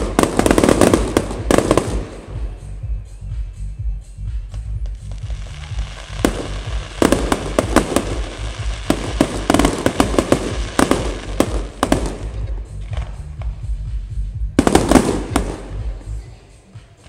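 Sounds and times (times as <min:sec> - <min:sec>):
fireworks bangs and crackling: 0:00.0 - 0:03.5, 0:04.4 - 0:16.2.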